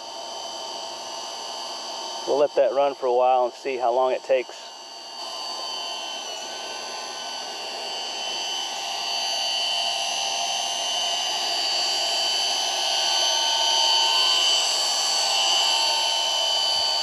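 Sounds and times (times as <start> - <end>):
electric water pump whirring: 0.0 - 17.0.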